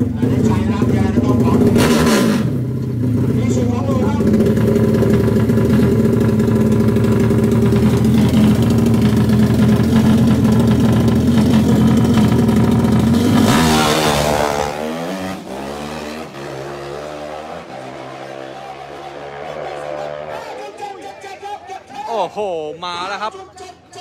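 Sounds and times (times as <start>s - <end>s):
racing motorcycle engine revving: 0.0s - 20.8s.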